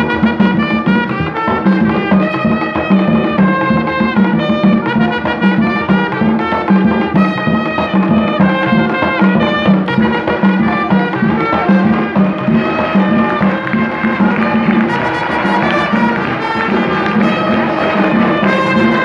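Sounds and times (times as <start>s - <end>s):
brass horns playing melody: 0.0s - 19.0s
hand drums beating: 0.0s - 19.0s.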